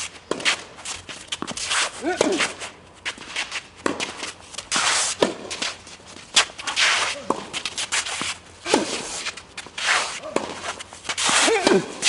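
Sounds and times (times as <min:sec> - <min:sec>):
shoes squeaking on court: 0:00.0 - 0:12.0
racket hitting ball: 0:00.3 - 0:00.7, 0:01.3 - 0:02.7, 0:03.5 - 0:12.0.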